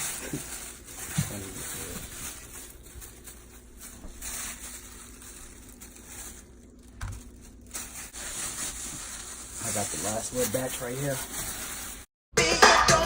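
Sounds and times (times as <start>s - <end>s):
crinkling and patting flour: 0.0s - 12.1s.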